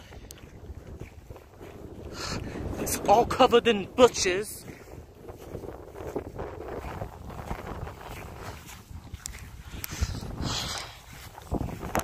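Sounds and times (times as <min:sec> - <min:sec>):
footsteps through grass: 0:00.0 - 0:12.0
wind buffeting microphone: 0:00.0 - 0:12.0.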